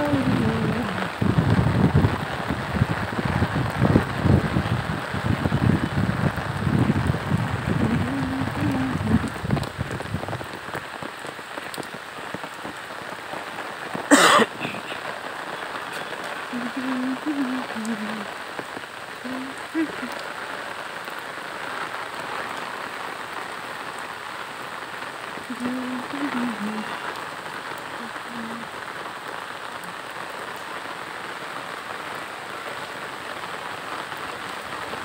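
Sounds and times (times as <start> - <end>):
steady rain on wet road: 0.0 - 35.0.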